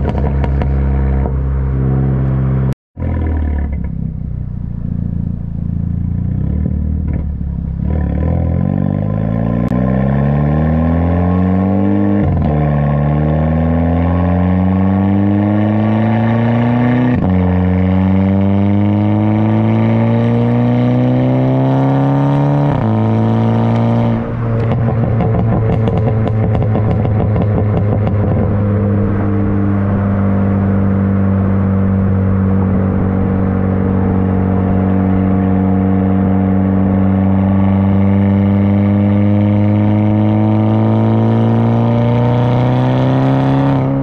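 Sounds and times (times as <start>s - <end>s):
car engine accelerating hard: 0.0s - 44.0s.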